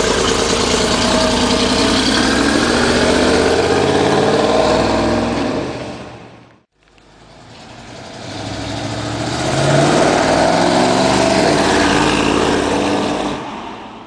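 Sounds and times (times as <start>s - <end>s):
truck engine revving: 0.0s - 13.6s.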